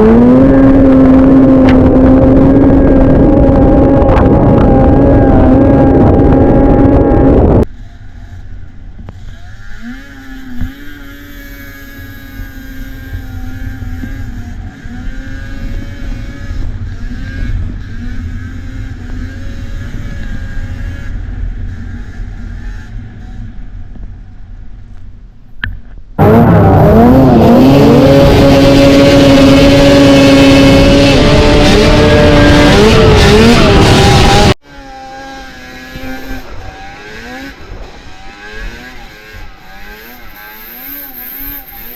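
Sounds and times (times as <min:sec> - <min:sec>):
close-up engine revving: 0:00.0 - 0:07.7, 0:09.0 - 0:23.6, 0:26.2 - 0:41.9
snowmobile engines revving: 0:00.0 - 0:24.4, 0:26.2 - 0:41.9.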